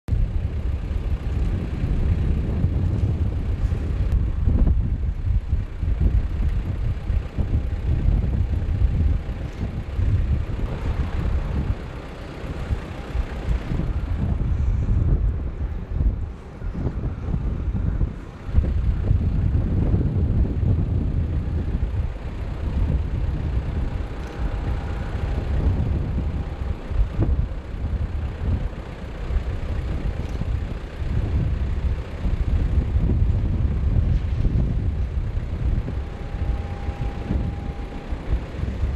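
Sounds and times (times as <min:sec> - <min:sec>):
faint steady whine: 0:00.1 - 0:38.9
jet engines rumbling: 0:00.1 - 0:38.9
wind buffeting microphone: 0:00.1 - 0:38.9.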